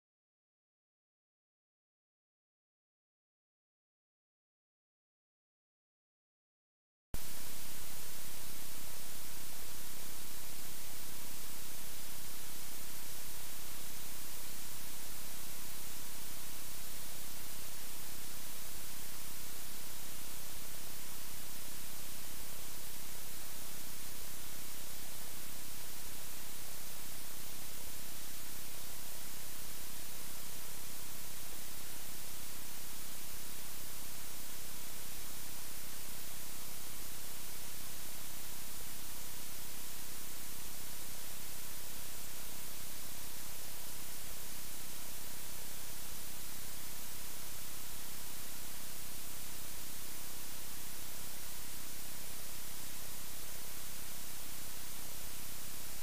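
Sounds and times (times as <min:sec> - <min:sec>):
faint hum tone: 0:07.2 - 0:56.0
static hiss: 0:07.2 - 0:56.0.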